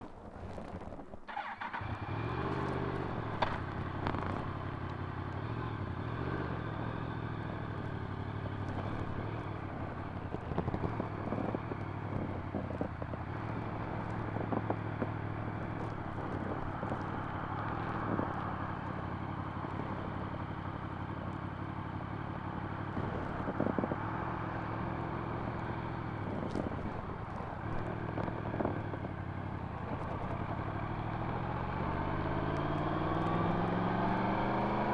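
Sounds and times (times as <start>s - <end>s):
motorbike engine droning: 0.0s - 34.9s.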